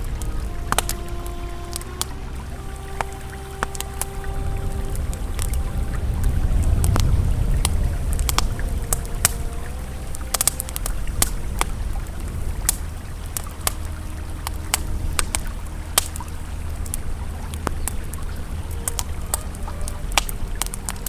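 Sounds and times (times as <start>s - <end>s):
campfire crackling and popping: 0.0s - 21.0s
flowing river: 0.0s - 21.0s.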